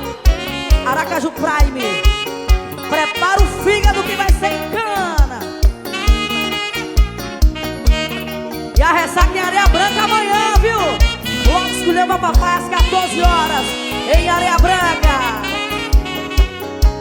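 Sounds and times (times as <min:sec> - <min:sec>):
sliding lead melody: 0:00.0 - 0:17.0.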